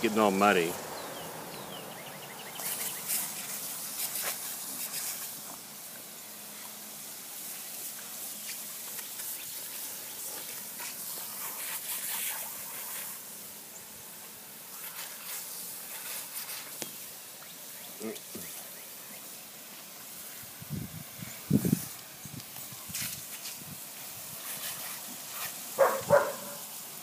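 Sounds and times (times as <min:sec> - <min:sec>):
water spraying from hose leak: 0:00.0 - 0:27.0.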